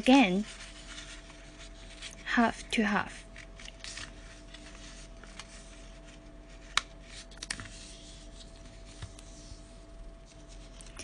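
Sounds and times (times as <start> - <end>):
paper rustling: 0.1 - 11.0.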